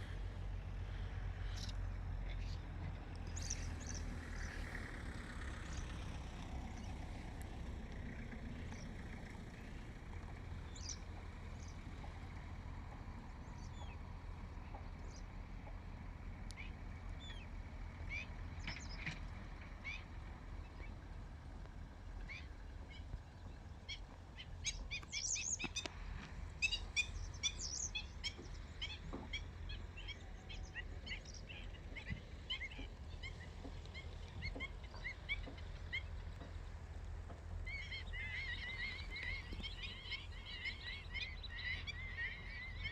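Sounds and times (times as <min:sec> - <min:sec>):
birds chirping: 0:00.0 - 0:42.9
steady low rumble: 0:00.0 - 0:42.9.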